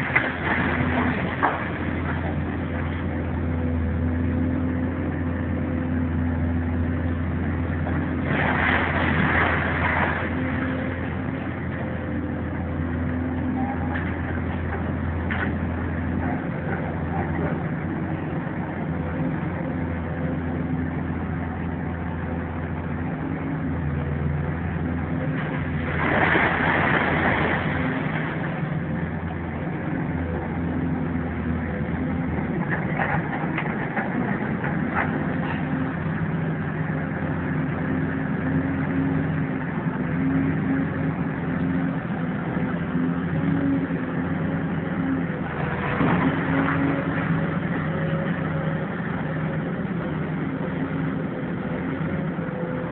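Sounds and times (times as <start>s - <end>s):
machinery engine humming: 0.0s - 52.9s.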